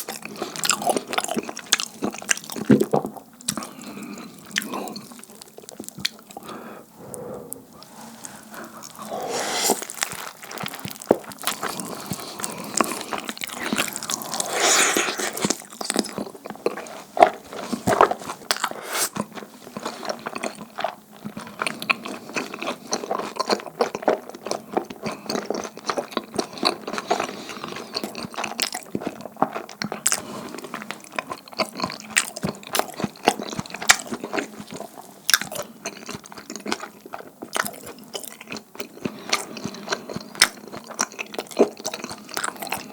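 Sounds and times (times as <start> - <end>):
chewing sticky food: 0.0 - 42.9.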